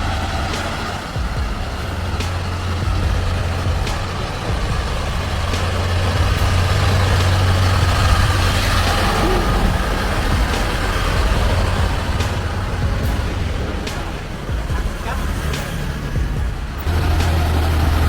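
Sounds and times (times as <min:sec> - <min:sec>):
truck engine droning: 0:00.0 - 0:18.0.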